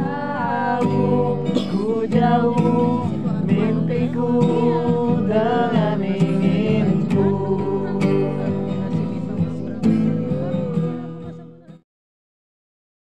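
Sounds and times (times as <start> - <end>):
acoustic guitar strumming: 0.0 - 11.8
voices singing: 0.0 - 11.8.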